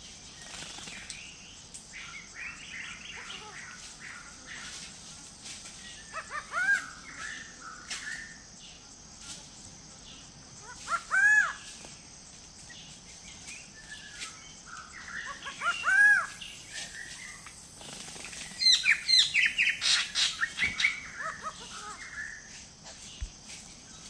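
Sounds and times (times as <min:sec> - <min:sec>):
forest birds calling: 0:00.0 - 0:09.0, 0:09.9 - 0:24.0.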